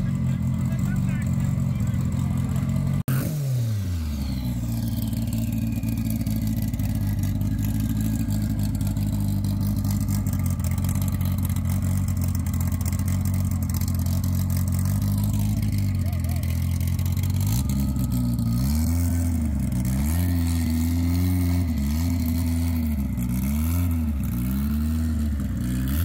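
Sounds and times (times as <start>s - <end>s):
racing car engine idling: 0.0s - 26.0s
racing car engine revving: 0.0s - 26.0s.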